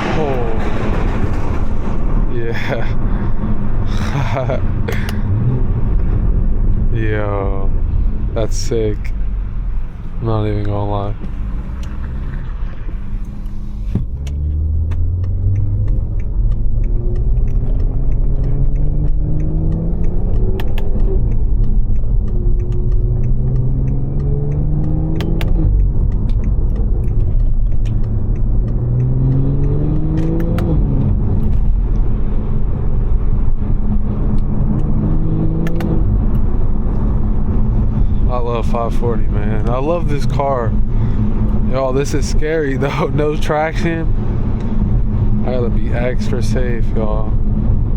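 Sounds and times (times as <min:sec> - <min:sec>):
car engine accelerating through gears: 0:00.0 - 0:47.9.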